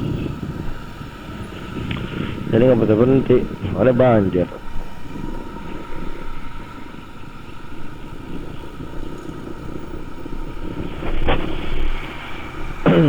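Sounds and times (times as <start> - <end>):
motorcycle engine and road noise: 0.0 - 13.0
wind buffeting microphone: 0.0 - 13.0.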